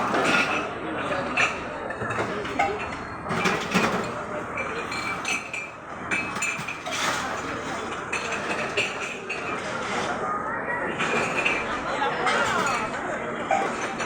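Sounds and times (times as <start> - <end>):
glasses and utensils clinking: 0.0 - 9.8, 10.9 - 14.0.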